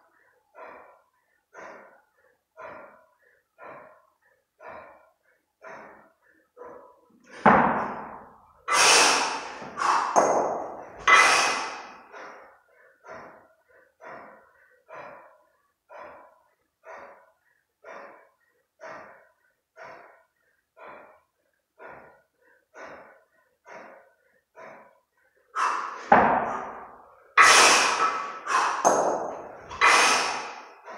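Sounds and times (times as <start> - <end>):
person breathing hard: 0.0 - 30.9.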